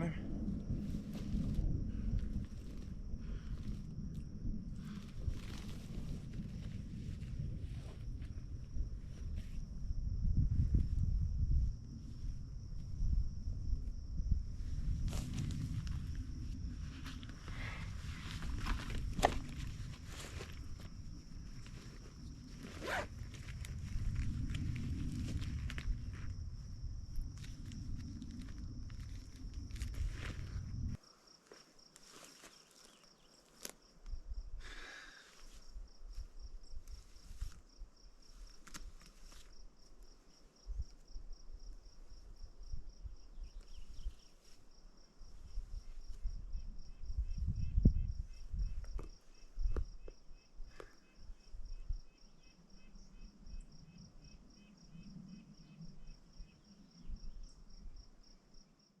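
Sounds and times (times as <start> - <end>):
wind rumbling on microphone: 0.0 - 31.0, 34.0 - 58.3
cricket-like insect chirping: 0.0 - 59.0
lower pulsing insect call: 0.0 - 59.0.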